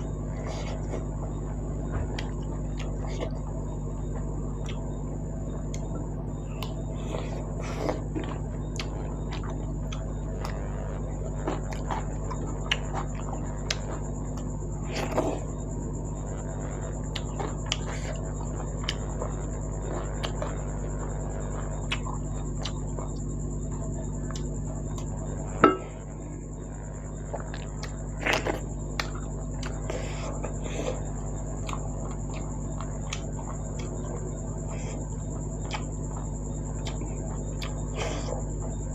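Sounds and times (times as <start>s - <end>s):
chewing food: 0.0s - 26.0s, 27.1s - 38.9s
steady hum: 0.0s - 38.9s
thin high whine: 0.0s - 38.9s.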